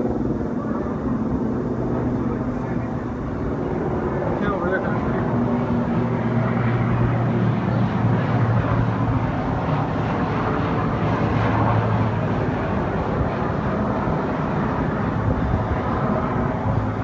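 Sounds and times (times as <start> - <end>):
constant low hum: 0.0 - 17.0
low rumbling noise: 0.0 - 17.0.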